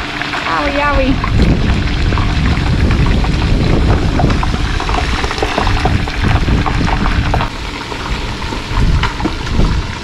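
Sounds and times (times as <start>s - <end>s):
oil bubbling and crackling: 0.0s - 10.0s.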